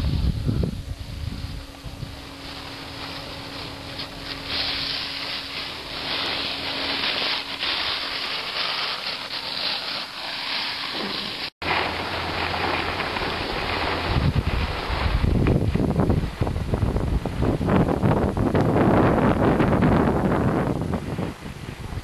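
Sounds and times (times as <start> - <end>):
wind on microphone: 0.0 - 9.7, 12.5 - 22.0
skis hissing over snow: 0.0 - 17.6.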